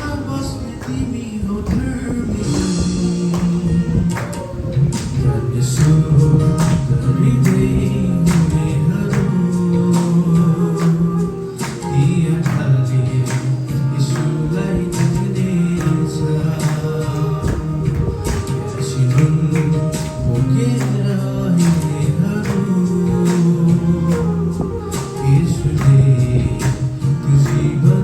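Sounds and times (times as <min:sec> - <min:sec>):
instrumental accompaniment with beat: 0:00.0 - 0:28.0
man singing worship song: 0:00.0 - 0:28.0.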